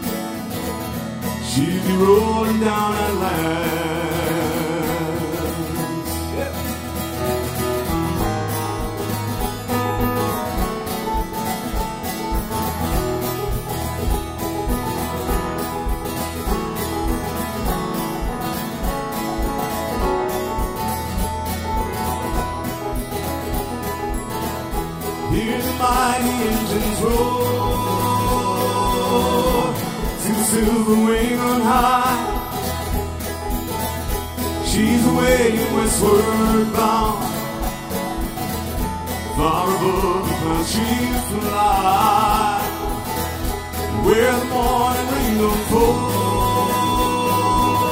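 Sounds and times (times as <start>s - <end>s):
folk band playing: 0.0s - 47.9s
voices: 1.4s - 17.5s, 24.4s - 47.9s.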